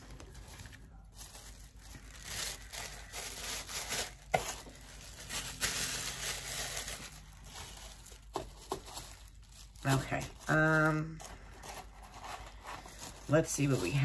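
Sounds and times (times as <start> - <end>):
tissue paper rustling and crinkling: 0.0 - 14.0.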